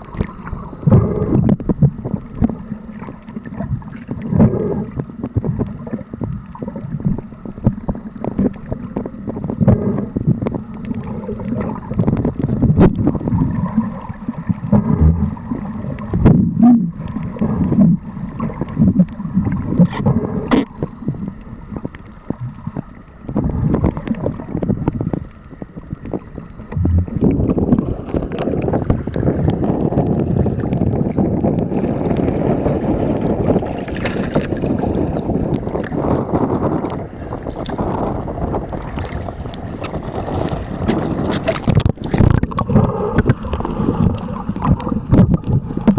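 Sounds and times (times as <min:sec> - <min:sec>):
muffled underwater gurgling: 0:00.0 - 0:45.9
water rushing: 0:00.0 - 0:45.9.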